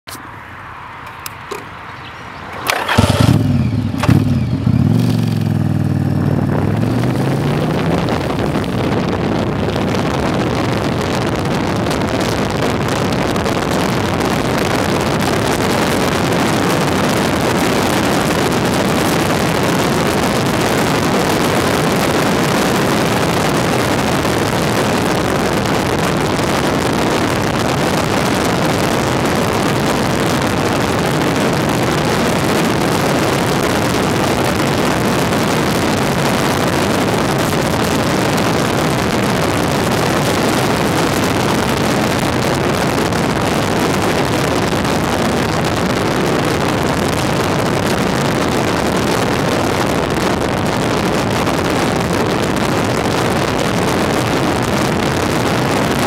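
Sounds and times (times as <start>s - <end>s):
wind rushing: 0.1s - 56.0s
motorcycle engine accelerating: 1.0s - 56.0s.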